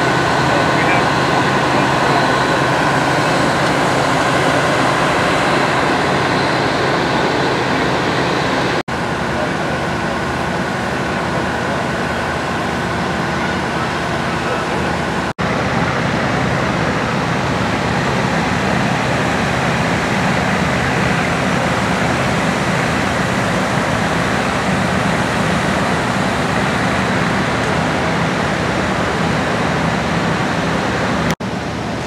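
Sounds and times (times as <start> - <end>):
fire engines droning: 0.0 - 32.0
water jets rushing: 0.0 - 32.0.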